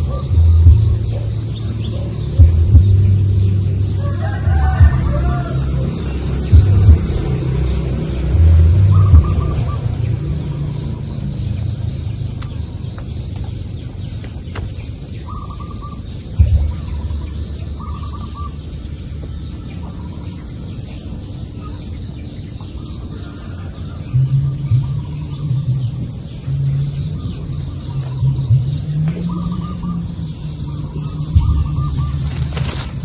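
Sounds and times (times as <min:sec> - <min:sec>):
steady low rumble: 0:00.0 - 0:23.1, 0:23.7 - 0:33.0
birds trilling and chirping: 0:00.0 - 0:33.0.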